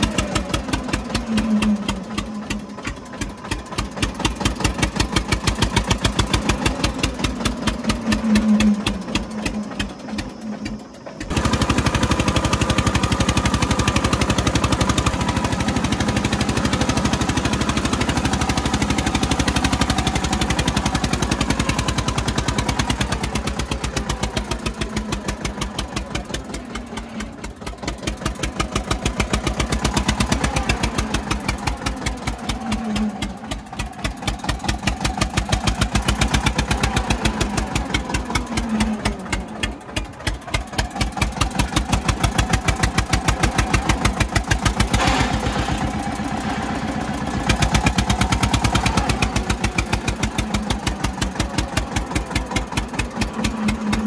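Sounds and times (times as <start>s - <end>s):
tractor diesel engine pulsing: 0.0s - 54.0s.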